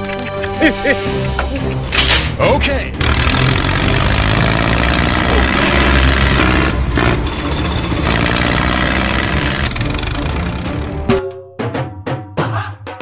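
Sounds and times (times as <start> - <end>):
tractor engine running: 0.0 - 11.2.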